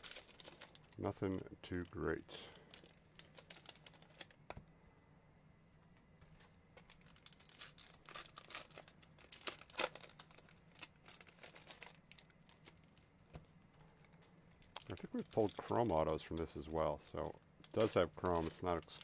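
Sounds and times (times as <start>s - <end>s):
wrappers crinkling: 0.0s - 4.4s, 6.3s - 13.2s, 14.0s - 19.0s.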